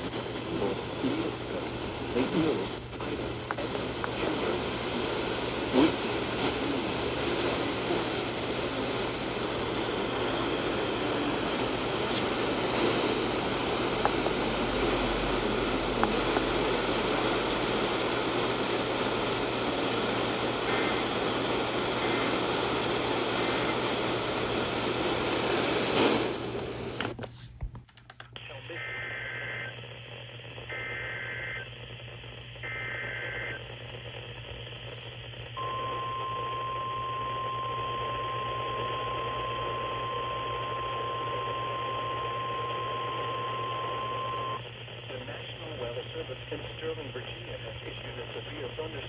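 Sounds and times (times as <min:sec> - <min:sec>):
radio static hiss: 0:00.0 - 0:27.4, 0:28.3 - 0:49.0.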